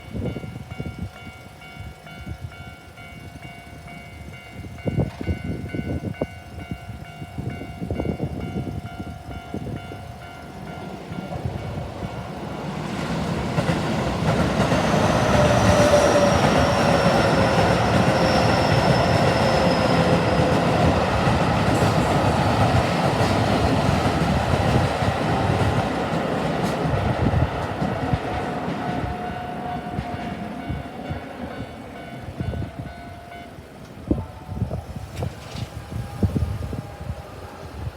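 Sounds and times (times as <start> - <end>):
train wheels rumbling on rails: 0.0 - 37.9
level crossing alarm ringing: 0.1 - 24.0, 27.8 - 34.7.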